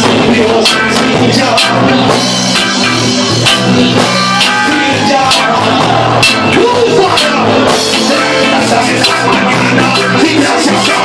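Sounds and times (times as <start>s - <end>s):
person singing: 0.0s - 2.2s, 2.8s - 11.0s
reggae band playing: 0.0s - 11.0s.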